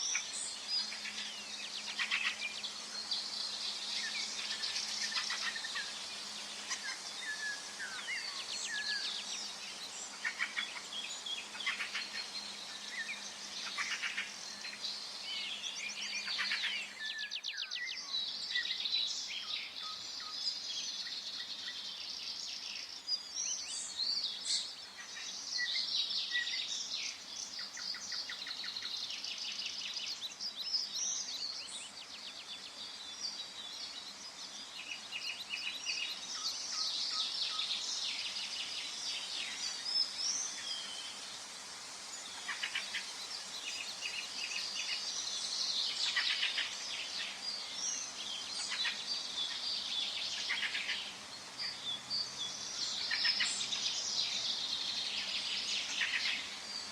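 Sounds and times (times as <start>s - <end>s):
background hiss: 0.0s - 56.9s
songbirds chirping and trilling: 0.0s - 56.9s.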